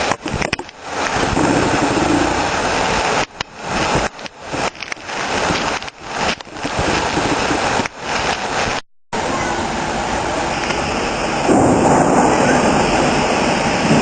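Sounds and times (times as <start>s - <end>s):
hail and rain pelting down: 0.0s - 14.0s.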